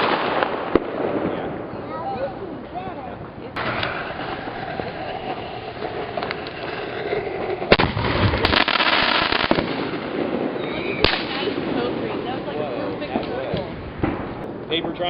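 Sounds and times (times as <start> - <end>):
firework bang: 0.0 - 1.8, 3.6 - 15.0
firework crackling: 0.0 - 15.0.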